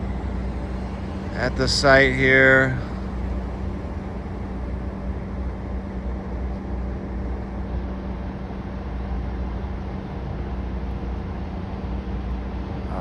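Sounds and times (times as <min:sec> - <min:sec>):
constant low hum: 0:00.0 - 0:13.0
engines and street traffic rumbling: 0:00.0 - 0:13.0.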